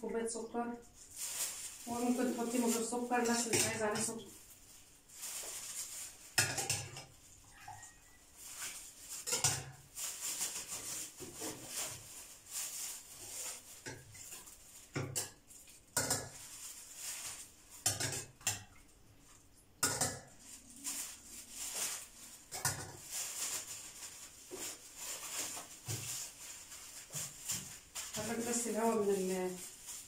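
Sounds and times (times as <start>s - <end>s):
plastic bag crinkling: 0.8s - 18.3s, 19.2s - 30.0s.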